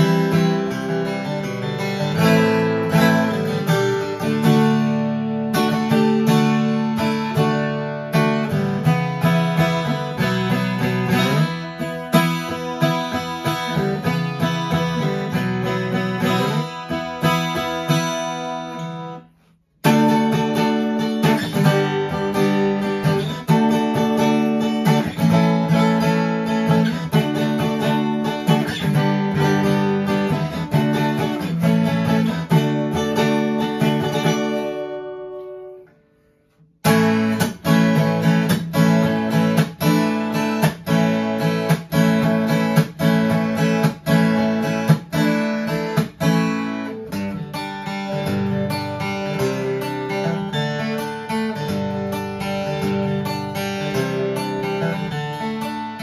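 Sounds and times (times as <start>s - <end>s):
acoustic guitar strummed and picked: 0.0s - 56.0s.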